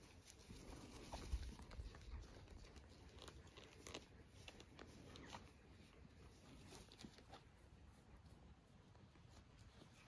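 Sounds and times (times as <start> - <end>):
hand ruffling fur: 0.0 - 10.0
rustling on grass: 0.0 - 10.0.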